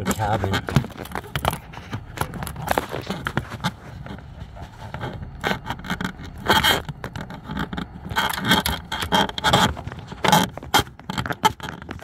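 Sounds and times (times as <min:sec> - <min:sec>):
tool scraping and rubbing: 0:00.0 - 0:12.0.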